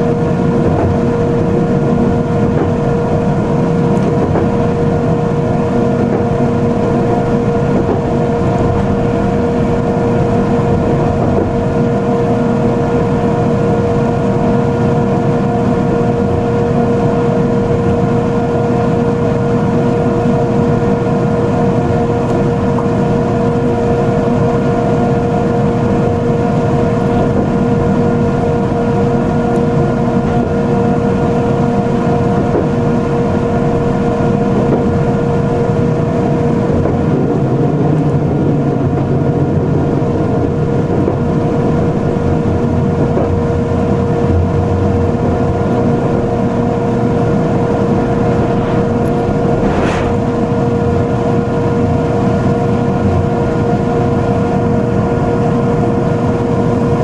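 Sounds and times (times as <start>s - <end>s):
electrical hum tone: 0.0s - 57.0s
train running gear rumble: 0.0s - 57.0s.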